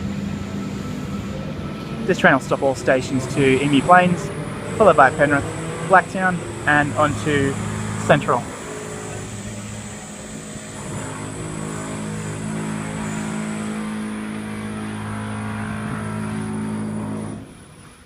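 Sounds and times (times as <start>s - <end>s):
train droning: 0.0s - 18.0s.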